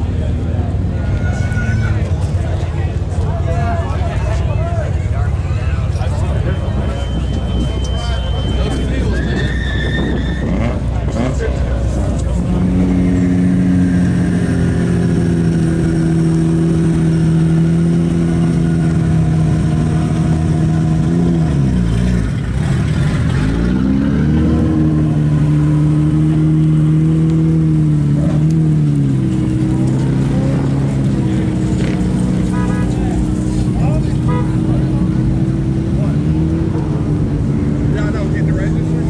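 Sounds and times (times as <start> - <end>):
car engines running: 0.0 - 39.0.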